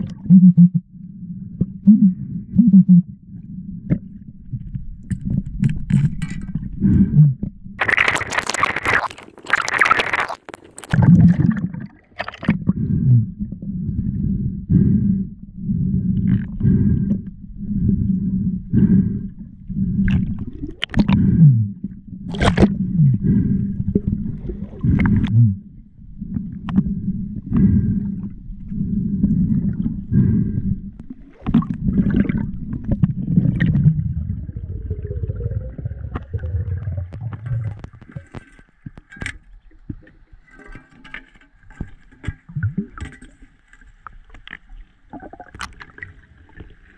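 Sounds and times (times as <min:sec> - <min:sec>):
underwater rumbling and bubbling: 0:00.0 - 0:46.9.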